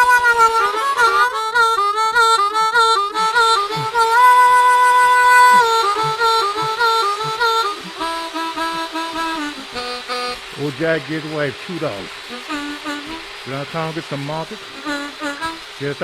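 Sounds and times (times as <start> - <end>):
blues harmonica playing: 0.0 - 16.0.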